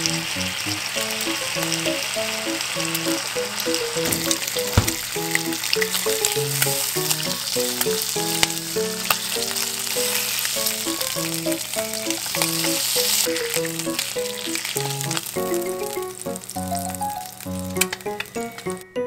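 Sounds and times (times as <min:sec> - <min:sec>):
bacon and egg sizzling: 0:00.0 - 0:18.8
background music: 0:00.0 - 0:19.0.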